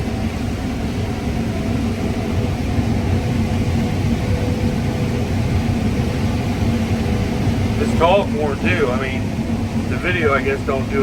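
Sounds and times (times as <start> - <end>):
combine harvester engine drone: 0.0 - 11.0
constant hum: 0.0 - 11.0.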